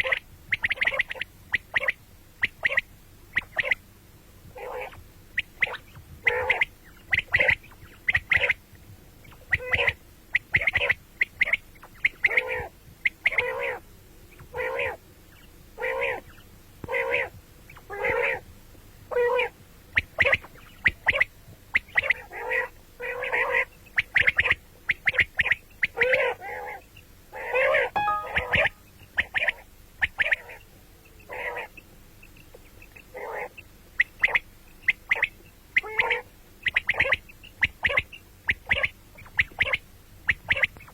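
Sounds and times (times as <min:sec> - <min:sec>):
quail calling: 0:00.0 - 0:03.8, 0:04.6 - 0:08.6, 0:09.3 - 0:15.0, 0:15.8 - 0:18.4, 0:19.1 - 0:30.6, 0:31.2 - 0:31.8, 0:32.9 - 0:33.6, 0:35.1 - 0:40.9.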